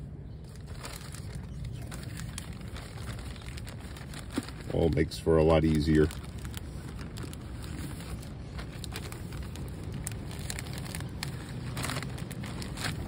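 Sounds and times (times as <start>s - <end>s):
low rumble: 0.0s - 5.2s, 6.1s - 13.0s
plastic bag crinkling: 0.4s - 13.0s.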